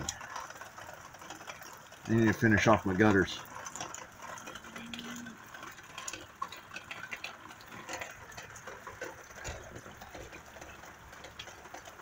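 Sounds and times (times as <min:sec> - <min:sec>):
rain dripping: 0:00.0 - 0:12.0.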